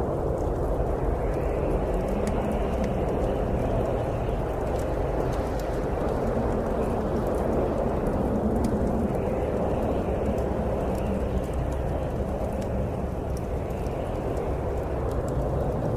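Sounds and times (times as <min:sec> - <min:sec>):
bonfire crackling: 0:00.0 - 0:15.9
wind blowing: 0:00.0 - 0:15.9.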